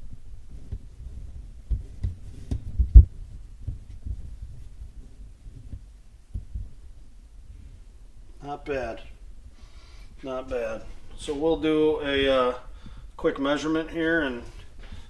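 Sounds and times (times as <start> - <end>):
faint low rumble: 0.0 - 15.0.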